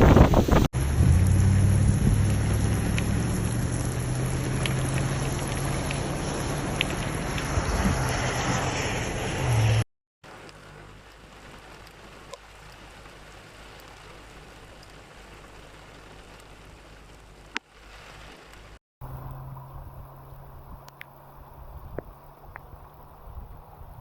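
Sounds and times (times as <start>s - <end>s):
running water: 0.0s - 9.6s, 10.2s - 24.0s
heavy rain: 0.0s - 24.0s.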